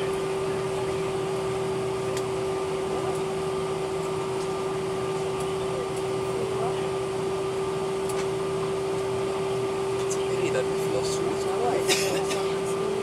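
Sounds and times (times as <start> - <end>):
aircraft cabin hum: 0.0 - 13.0.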